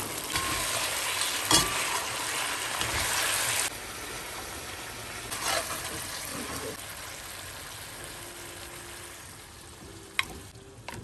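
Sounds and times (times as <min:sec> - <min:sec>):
chicken sizzling in a wok: 0:00.0 - 0:10.6.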